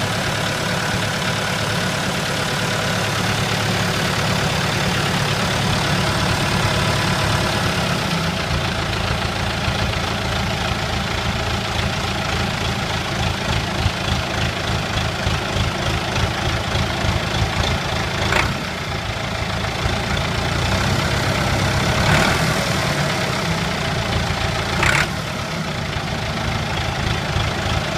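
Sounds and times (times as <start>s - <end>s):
tractor diesel engine idling: 0.0s - 27.9s.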